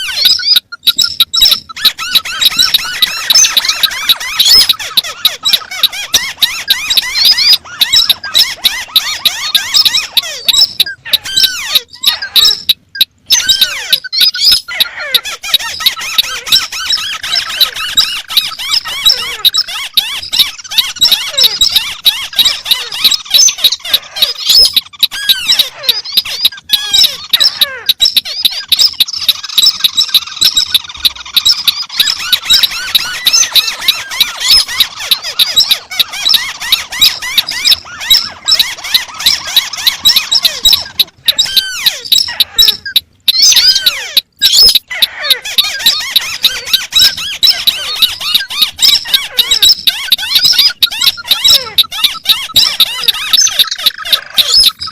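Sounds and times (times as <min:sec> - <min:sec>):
crakes calling: 0:00.0 - 0:54.9.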